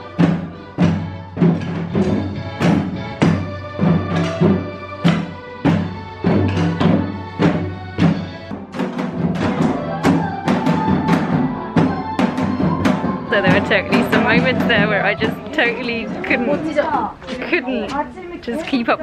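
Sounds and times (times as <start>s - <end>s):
steady tones: 0.0s - 19.0s
hourglass drums struck with sticks: 0.2s - 16.7s.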